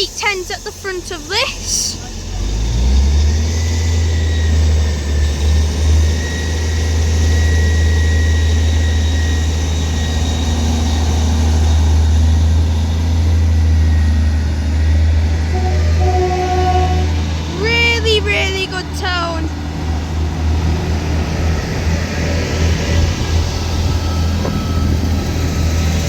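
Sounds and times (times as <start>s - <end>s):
train diesel engines rumbling: 0.0s - 26.0s.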